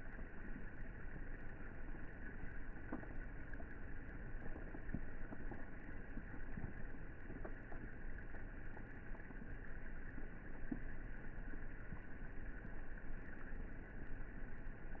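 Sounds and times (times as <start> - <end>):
rain falling into a pool: 0.0 - 15.0
soft water drops: 0.0 - 15.0.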